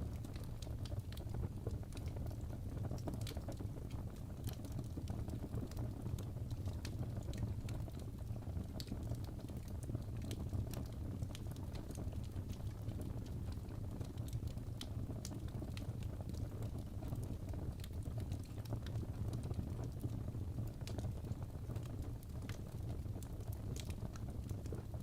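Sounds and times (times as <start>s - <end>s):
logs crackling and popping: 0.0s - 25.0s
low rumble of flames: 0.0s - 25.0s.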